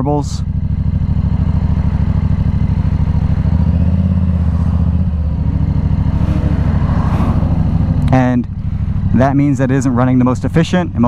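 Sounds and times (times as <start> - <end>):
motorcycle exhaust note: 0.4 - 10.5.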